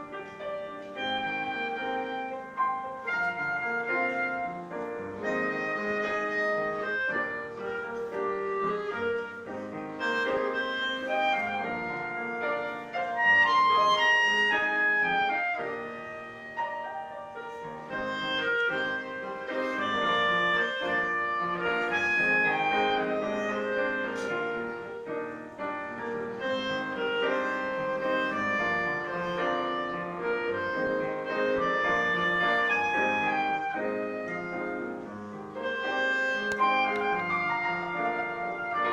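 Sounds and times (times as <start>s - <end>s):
melody instrument holding notes: 0.0s - 38.9s
piano accompaniment: 0.0s - 38.9s.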